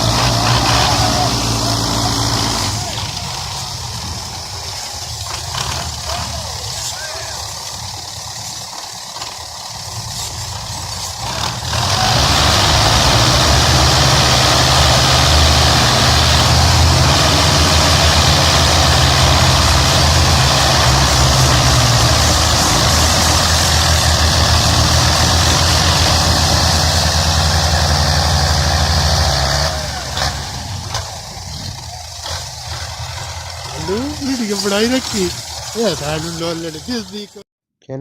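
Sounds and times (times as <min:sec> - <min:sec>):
tractor diesel engine running: 0:00.0 - 0:37.4.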